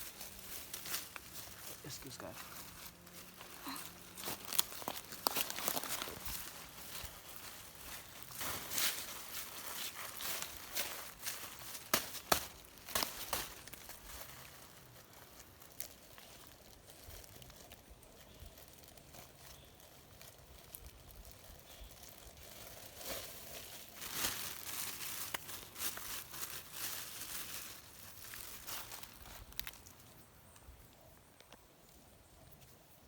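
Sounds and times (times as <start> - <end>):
rustling handling noise: 0.0 - 16.9, 18.7 - 30.1.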